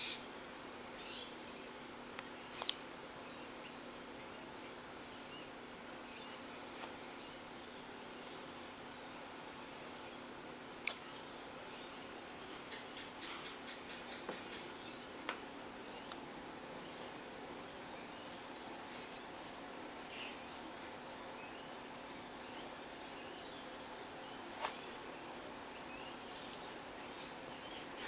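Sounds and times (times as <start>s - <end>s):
background hiss: 0.0s - 28.0s
faint chirps: 0.0s - 28.0s.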